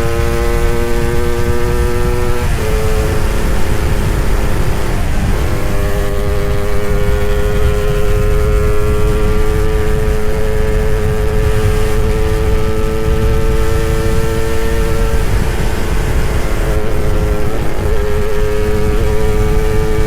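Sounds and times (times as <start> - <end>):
two-stroke motorcycle engine revving: 0.0 - 20.0
heavy low rumble: 1.0 - 20.0.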